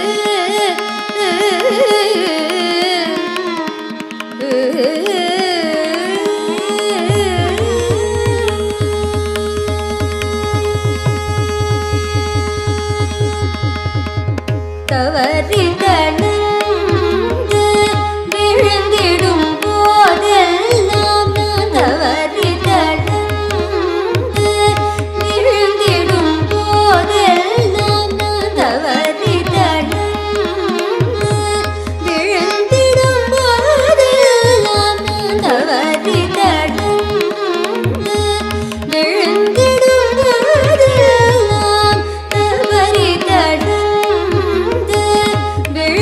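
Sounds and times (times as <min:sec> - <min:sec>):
woman singing: 0:00.0 - 0:09.9, 0:14.9 - 0:46.0
violin: 0:00.0 - 0:46.0.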